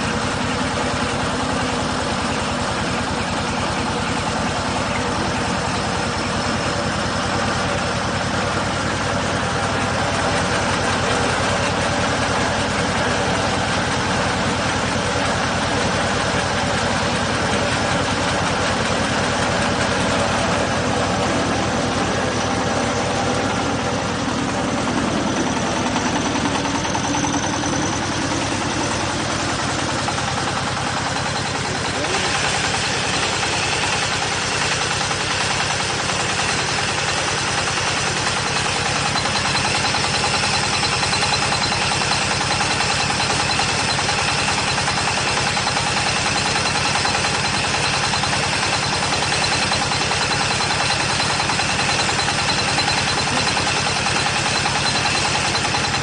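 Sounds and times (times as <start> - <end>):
conveyor and rollers running: 0.0 - 56.0
diesel engine running: 0.0 - 56.0.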